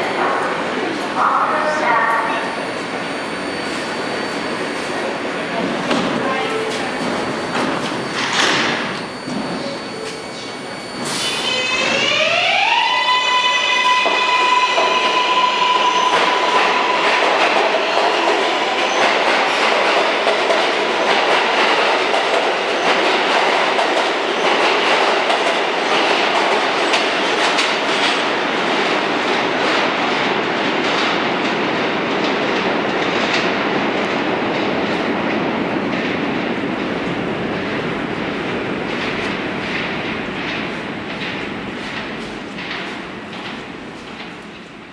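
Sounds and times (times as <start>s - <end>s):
subway train propulsion whine: 0.0s - 44.9s.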